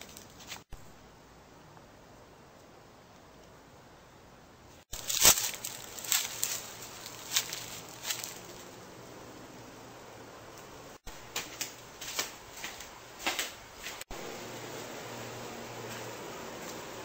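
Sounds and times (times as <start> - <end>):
low hiss: 0.0 - 17.0.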